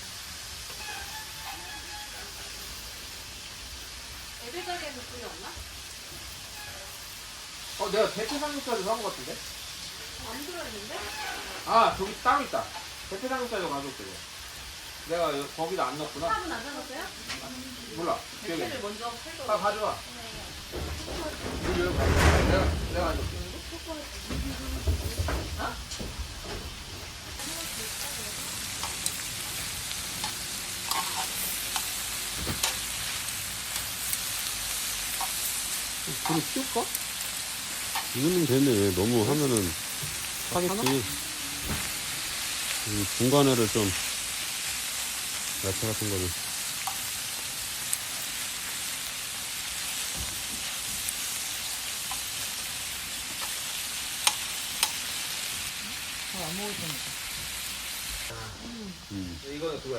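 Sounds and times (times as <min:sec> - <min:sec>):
meat sizzling on a grill: 0:00.0 - 0:59.9.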